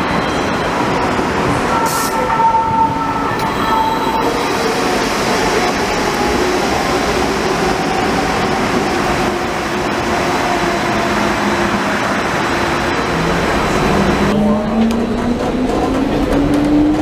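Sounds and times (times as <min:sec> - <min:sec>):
light rail train rumbling: 0:00.0 - 0:17.0.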